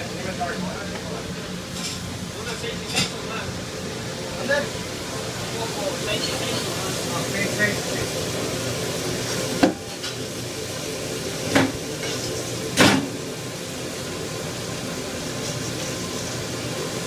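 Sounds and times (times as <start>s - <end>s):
kitchen extraction hood and burners: 0.0s - 17.0s.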